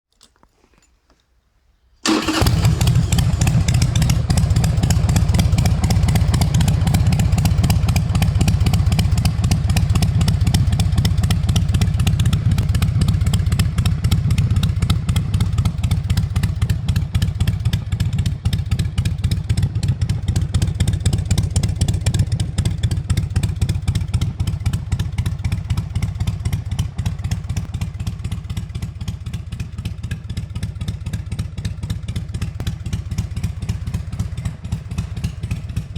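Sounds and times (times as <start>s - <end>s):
motorcycle engine running: 2.1s - 35.9s.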